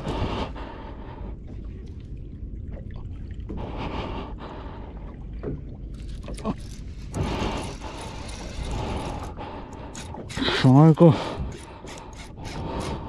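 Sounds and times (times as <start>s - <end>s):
water noise: 0.0s - 13.0s
wind: 0.0s - 13.0s.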